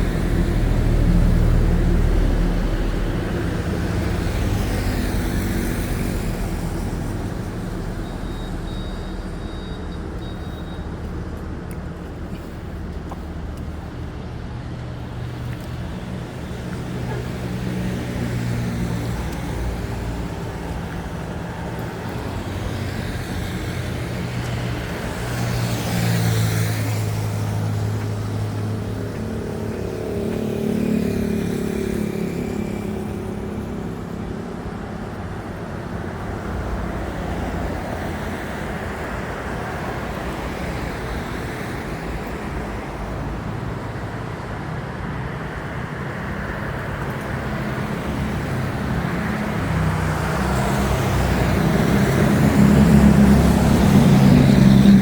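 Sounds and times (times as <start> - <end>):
excavator diesel engine: 0.0 - 41.4, 42.3 - 55.0.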